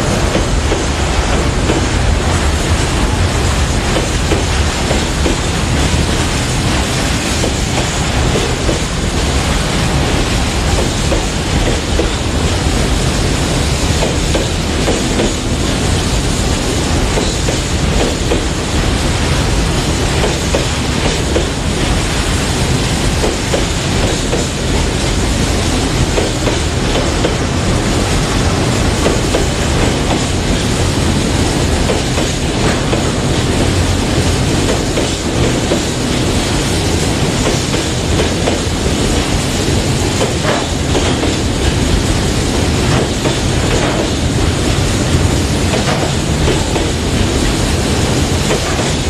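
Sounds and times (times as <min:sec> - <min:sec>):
freight train wagons rolling past: 0:00.0 - 0:49.0
steel wheels clattering on rails: 0:00.0 - 0:49.0.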